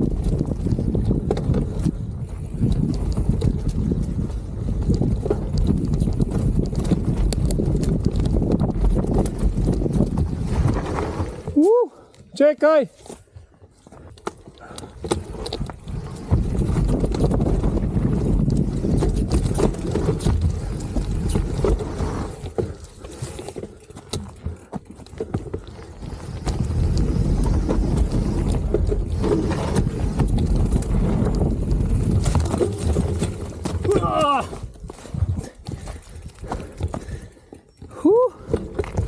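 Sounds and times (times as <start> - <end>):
wind rumble on camera: 0.0 - 11.7, 14.6 - 23.6, 24.7 - 39.0
bike clicks and rattles: 0.0 - 12.4, 13.0 - 39.0
bike tyre noise on dirt: 0.0 - 39.0.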